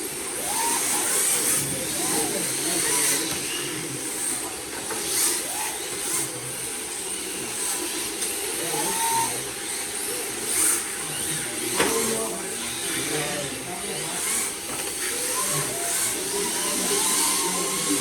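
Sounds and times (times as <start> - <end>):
rc cars whining and hissing: 0.0 - 18.0.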